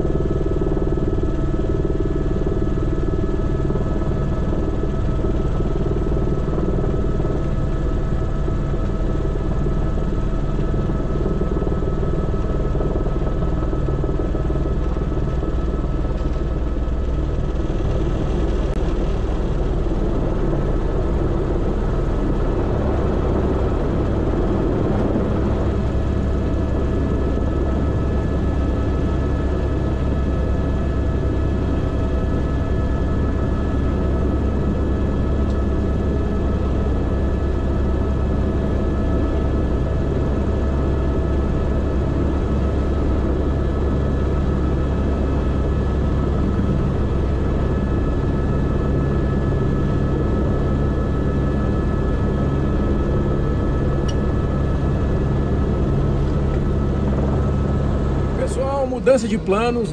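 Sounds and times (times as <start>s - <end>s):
helicopter rotor and turbine drone: 0.0s - 59.9s.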